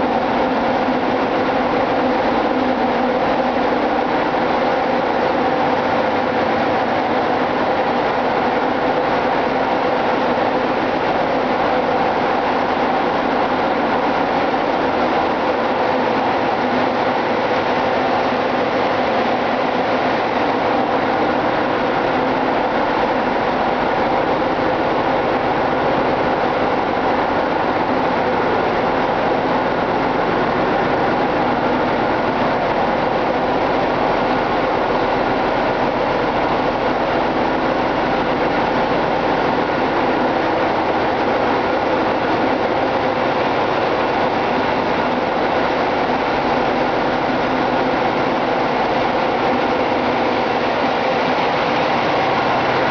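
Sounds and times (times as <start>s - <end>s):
engine room machinery drone: 0.0s - 52.9s.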